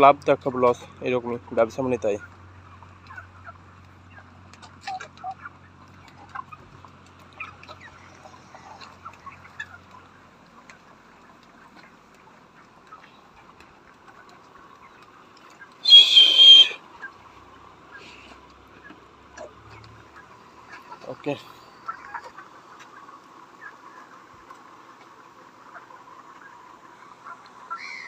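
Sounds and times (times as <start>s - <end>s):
chickens chirping and clucking: 0.0s - 28.0s.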